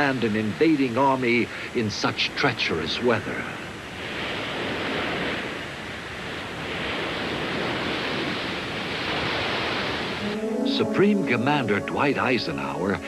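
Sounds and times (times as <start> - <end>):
stormy sea waves: 0.0 - 13.0
wind: 0.0 - 13.0.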